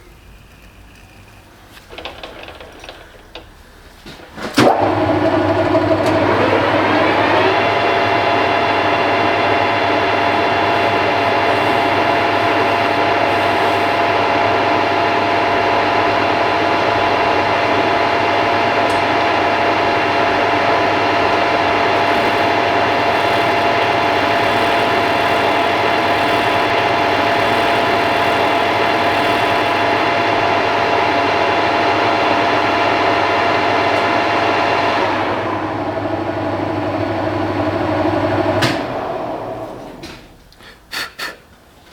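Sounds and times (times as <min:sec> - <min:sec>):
lathe gear whine: 0:04.6 - 0:40.3
low motor hum: 0:04.7 - 0:40.4.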